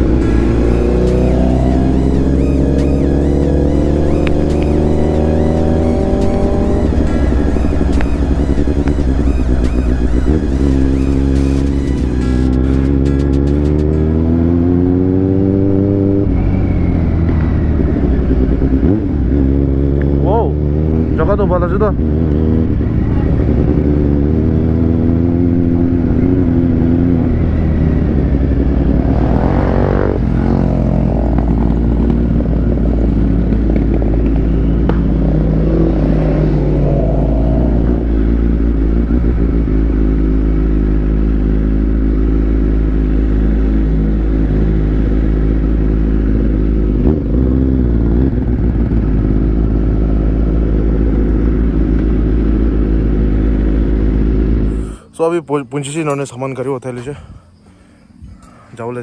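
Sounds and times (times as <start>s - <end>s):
motorcycle engine running: 0.0s - 55.0s
second motorcycle engine: 0.0s - 59.0s.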